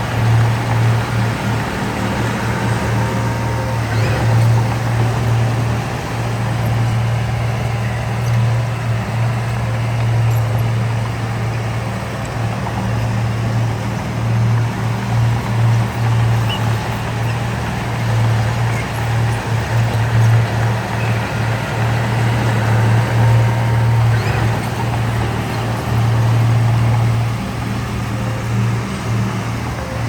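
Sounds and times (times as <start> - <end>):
heavy machinery diesel engine droning: 0.0 - 30.0.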